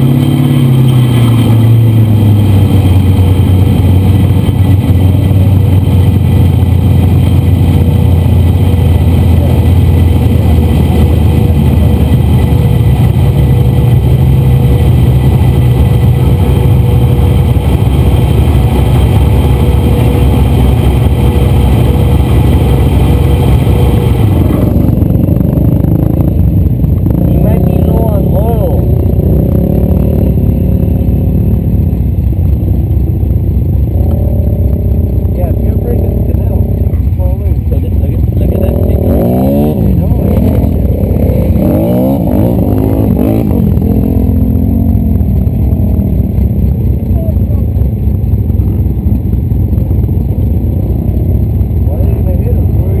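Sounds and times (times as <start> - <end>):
off-road vehicle engine running: 0.0 - 53.0.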